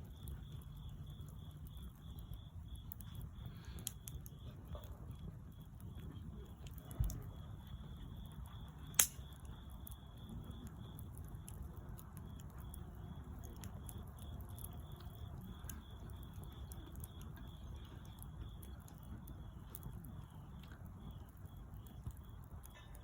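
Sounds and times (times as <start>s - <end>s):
low rumble of burning: 0.0s - 23.0s
sharp pops from fire: 0.0s - 23.0s
wood fire crackling: 0.0s - 23.0s.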